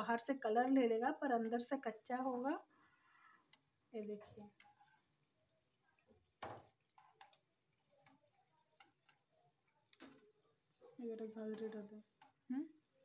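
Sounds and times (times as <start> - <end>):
food crackling in frying oil: 0.0 - 13.0.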